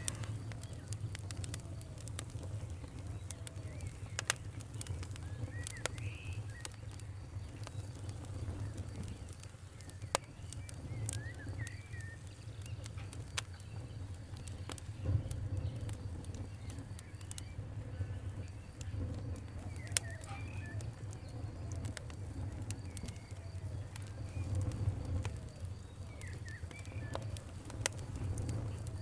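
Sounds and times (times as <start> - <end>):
faint bird chirps: 0.0 - 29.0
wood fire crackling: 0.0 - 29.0.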